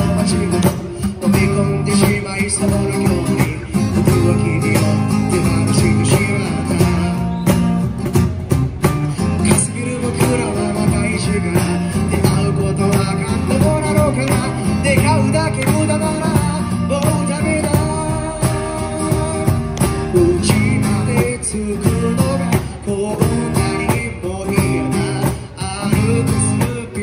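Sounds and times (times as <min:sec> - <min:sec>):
person singing through microphone: 0:00.0 - 0:07.5, 0:09.3 - 0:27.0
cajon beat: 0:00.0 - 0:27.0
strummed acoustic guitar: 0:00.0 - 0:27.0.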